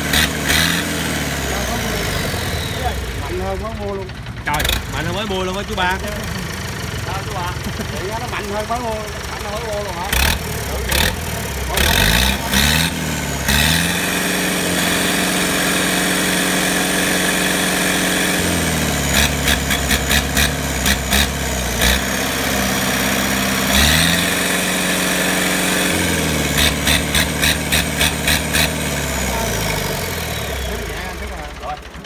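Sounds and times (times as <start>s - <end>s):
tractor diesel engine revving: 0.0s - 32.0s.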